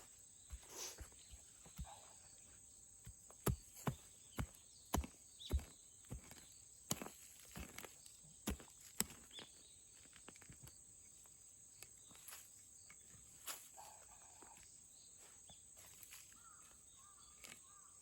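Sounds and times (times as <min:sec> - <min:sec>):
footsteps on forest ground: 0:00.0 - 0:02.2, 0:03.0 - 0:10.8, 0:12.0 - 0:17.9.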